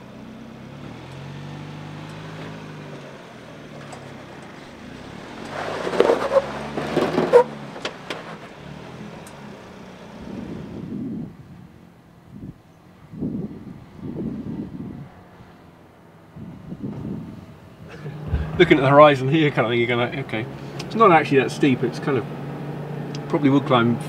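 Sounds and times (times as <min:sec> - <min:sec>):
truck engine running at low revs: 0:00.0 - 0:24.0.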